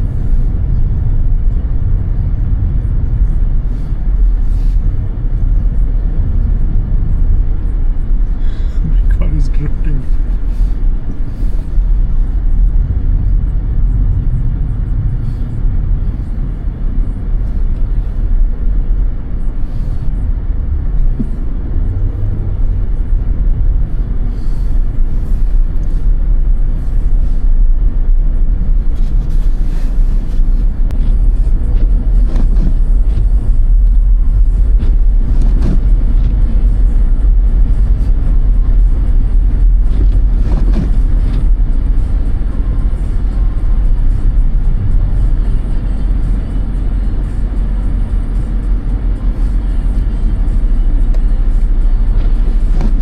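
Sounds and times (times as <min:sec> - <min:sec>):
car driving on road: 0:00.0 - 0:53.0.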